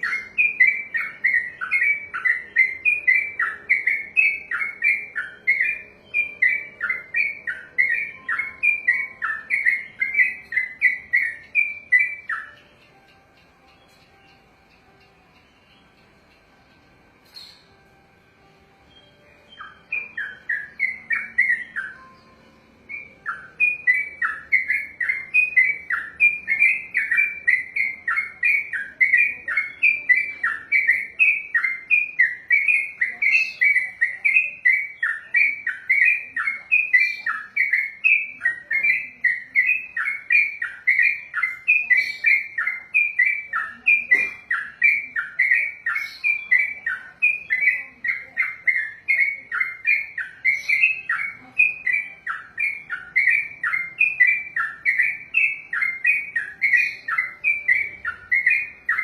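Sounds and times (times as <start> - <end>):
bulbul singing rapid notes: 0.0 - 59.0.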